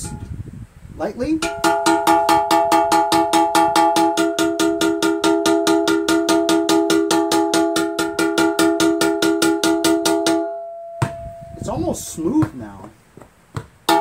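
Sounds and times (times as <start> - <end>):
rapid metal tapping on metal: 1.4 - 11.2, 12.5 - 14.0.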